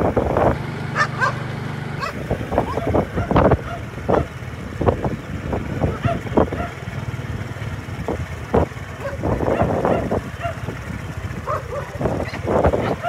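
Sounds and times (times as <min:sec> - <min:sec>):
steady low rumble: 0:02.0 - 0:13.0.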